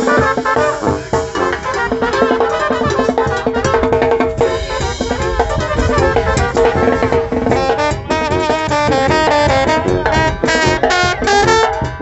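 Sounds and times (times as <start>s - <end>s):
brass band playing cumbia: 0.0s - 12.0s
snare and bass drums: 0.0s - 12.0s
sousaphone bass line: 0.0s - 12.0s.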